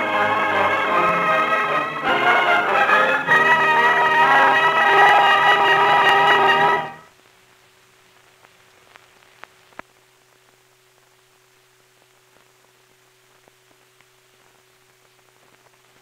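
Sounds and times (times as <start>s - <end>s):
faint film hiss: 0.0s - 16.0s.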